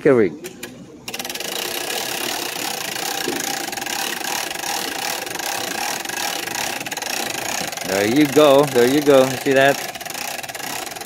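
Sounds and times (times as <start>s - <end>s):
motor running with rattle: 0.4s - 11.0s.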